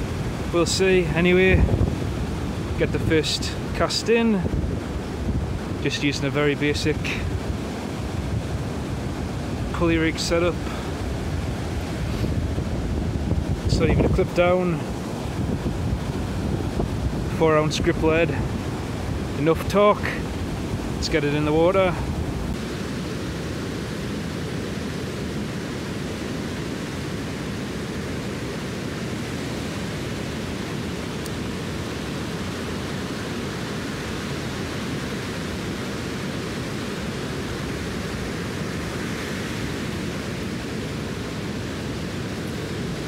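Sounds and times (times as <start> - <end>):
surf breaking on a beach: 0.0 - 43.0
wind: 0.0 - 43.0.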